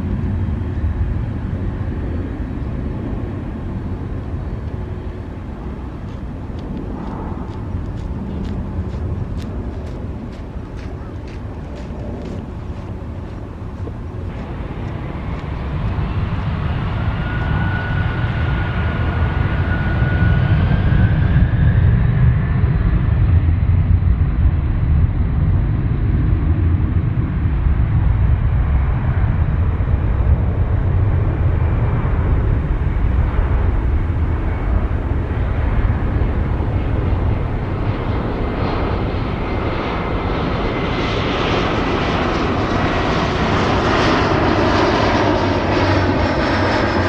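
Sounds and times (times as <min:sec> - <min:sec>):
high engine whine: 0:00.0 - 0:47.0
jet engines roaring: 0:00.0 - 0:47.0.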